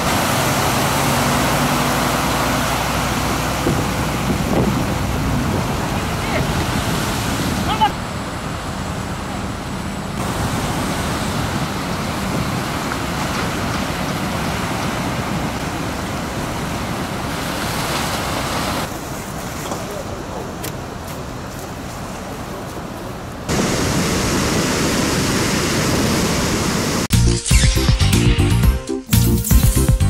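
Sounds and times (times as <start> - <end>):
waves breaking: 0.0 - 9.2, 10.2 - 27.1.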